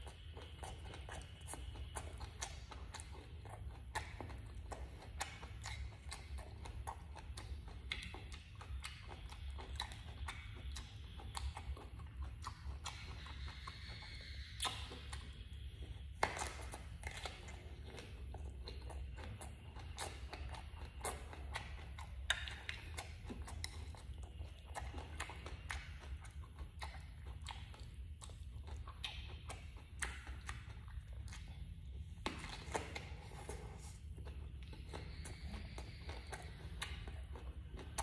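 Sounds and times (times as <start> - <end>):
chewing: 0.0 - 38.0
steady low hum: 0.0 - 38.0
wet mouth clicks and smacks: 0.0 - 38.0.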